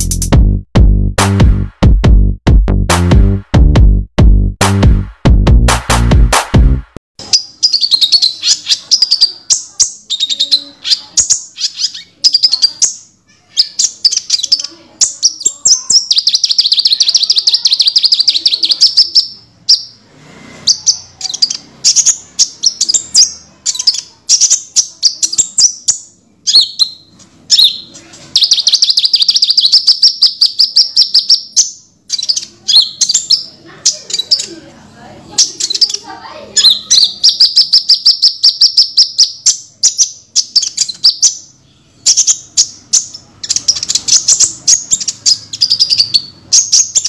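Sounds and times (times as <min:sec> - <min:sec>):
bird chirping and trilling: 0:07.2 - 0:47.0.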